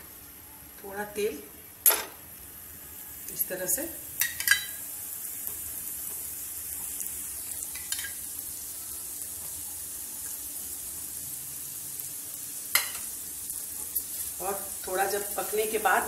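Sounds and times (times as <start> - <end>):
oil sizzling: 0.0 - 16.0.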